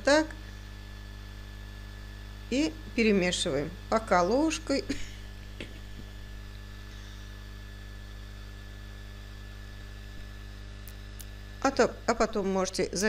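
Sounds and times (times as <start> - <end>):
electrical hum and buzz: 0.0 - 13.0.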